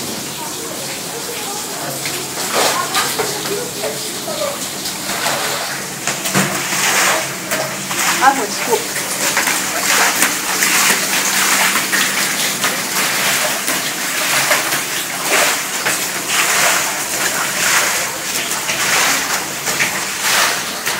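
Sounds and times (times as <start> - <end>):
water splashing on tiled floor: 0.0 - 20.9.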